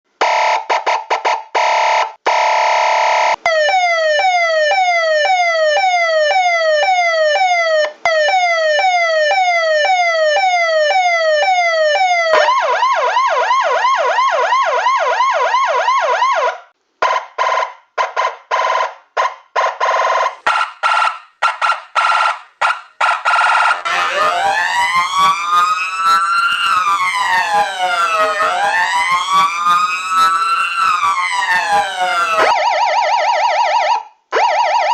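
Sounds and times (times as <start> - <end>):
emergency vehicle sirens: 0.2 - 18.8, 19.6 - 34.9.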